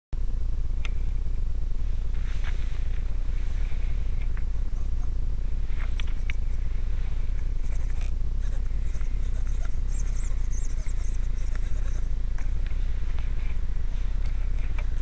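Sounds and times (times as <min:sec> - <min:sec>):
steady low rumble: 0:00.2 - 0:15.0
handling noise on microphone: 0:01.8 - 0:15.0.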